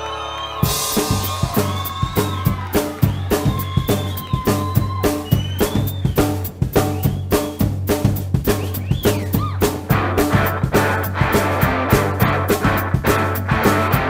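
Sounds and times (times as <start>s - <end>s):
rockabilly band playing: 0.0s - 14.0s.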